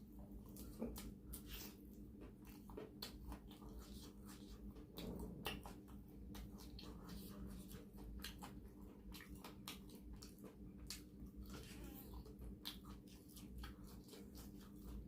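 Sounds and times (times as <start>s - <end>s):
low steady hum: 0.0s - 15.0s
chewing and biting: 0.3s - 15.0s.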